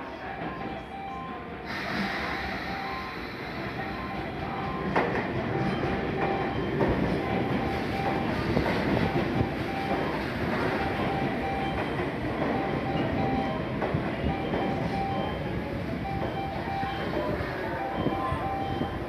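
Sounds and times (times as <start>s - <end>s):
short beep: 0.8s - 10.2s, 10.8s - 19.0s.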